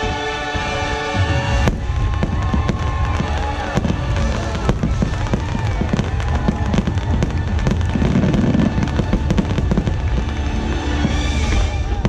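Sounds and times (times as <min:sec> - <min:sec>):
fireworks bangs and crackles: 0:00.0 - 0:12.0
music soundtrack: 0:00.0 - 0:12.0.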